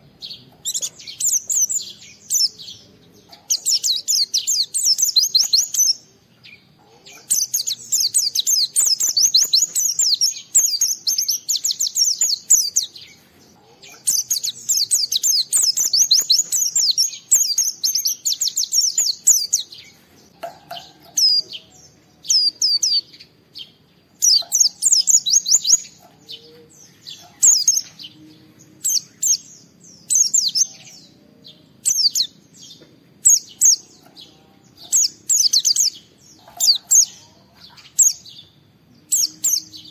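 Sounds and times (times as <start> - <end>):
bird high chirping song: 0.0 - 39.9.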